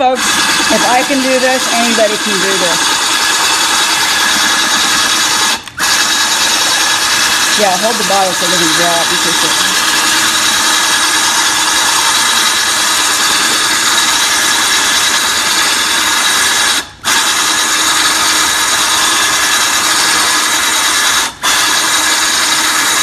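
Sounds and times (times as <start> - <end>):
drill bit grinding into glass: 0.0 - 23.0.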